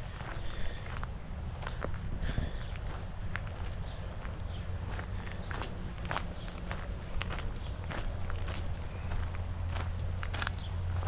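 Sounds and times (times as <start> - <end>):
footsteps on trail: 0.0 - 11.0.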